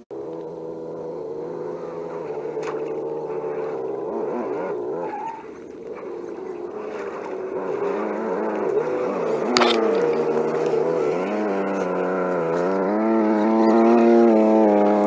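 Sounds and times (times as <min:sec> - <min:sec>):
simulated engine revving: 0:00.0 - 0:15.0
simulated engine steady note: 0:00.0 - 0:15.0.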